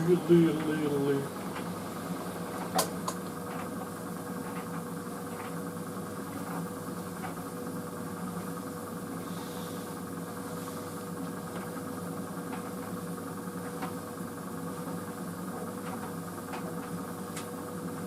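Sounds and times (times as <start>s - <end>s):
tumble dryer running: 0.0s - 18.0s.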